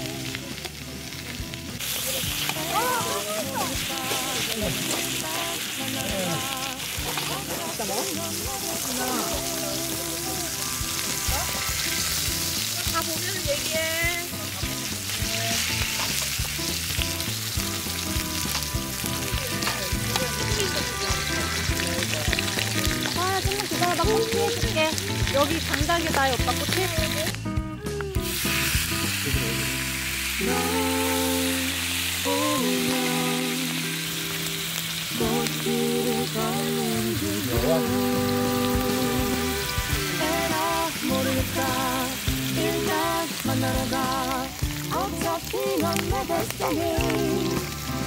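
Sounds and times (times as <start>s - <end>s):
food sizzling on a griddle: 0.0s - 48.0s
music playing: 0.0s - 48.0s.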